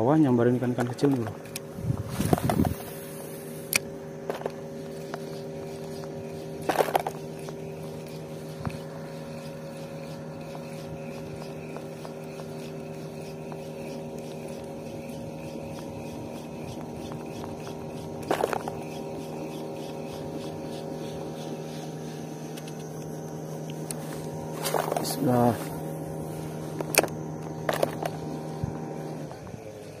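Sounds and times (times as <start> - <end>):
motor drone: 0.0 - 30.0.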